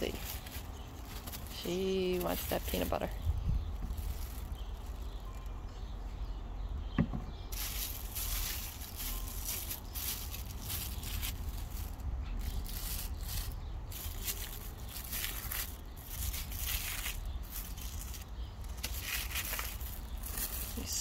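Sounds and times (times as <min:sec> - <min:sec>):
plastic bag crinkling: 0:00.0 - 0:05.5, 0:07.5 - 0:21.0.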